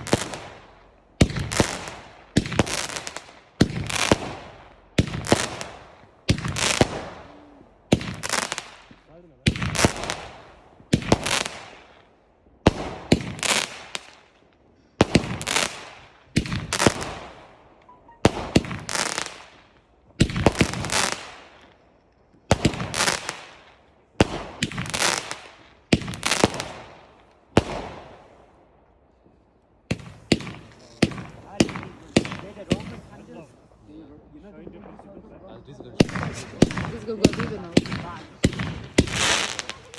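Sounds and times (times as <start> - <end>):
fireworks bangs and crackle: 0.0 - 28.5, 29.9 - 33.6, 34.6 - 39.9.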